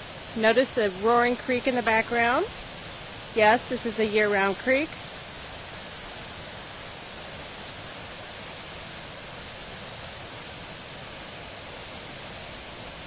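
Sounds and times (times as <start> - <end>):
creek rushing over rapids: 0.0 - 13.0.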